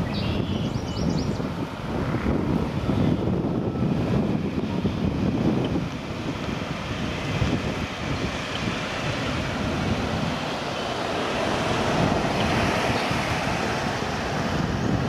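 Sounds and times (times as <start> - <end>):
jet engines on approach: 0.0 - 15.0
wind buffeting microphone: 0.0 - 15.0.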